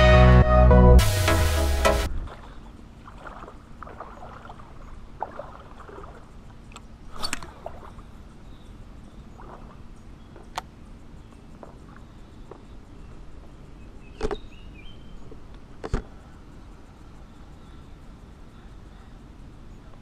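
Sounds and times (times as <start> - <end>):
faint water sounds: 2.0 - 20.0.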